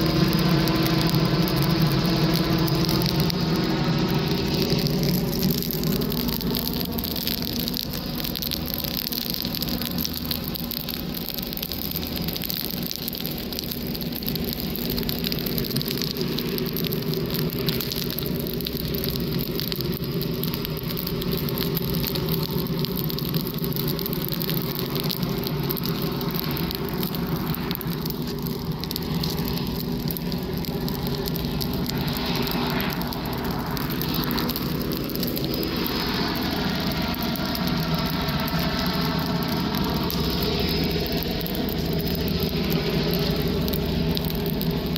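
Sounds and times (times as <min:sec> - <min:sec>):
dry grass crackling as it burns: 0:00.0 - 0:44.9
engine drone: 0:00.0 - 0:44.9.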